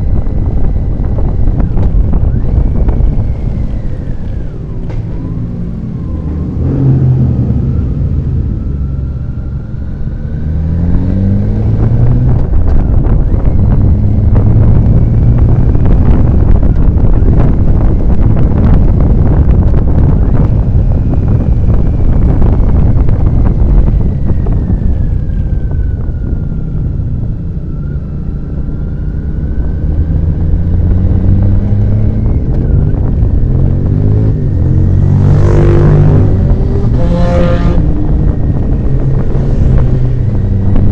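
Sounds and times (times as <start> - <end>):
heavy wind rush: 0.0 - 40.9
motorcycle engine revving: 0.0 - 40.9.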